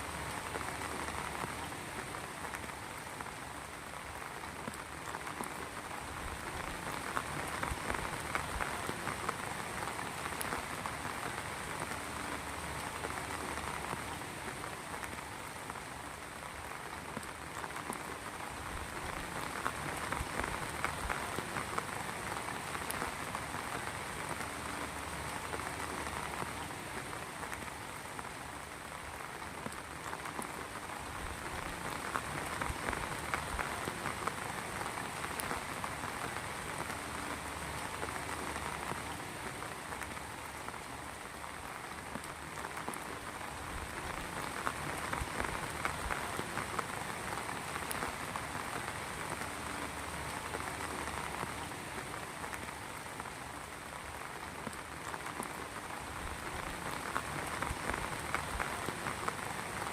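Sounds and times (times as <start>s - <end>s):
heavy rain on hard surface: 0.0s - 59.9s.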